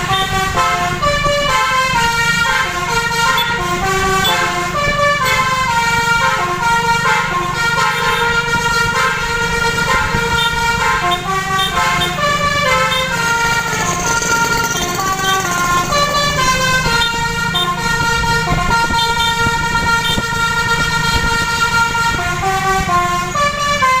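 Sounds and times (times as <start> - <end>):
bus engine running: 0.0 - 24.0
multi-tone bus horn melody: 0.0 - 24.0.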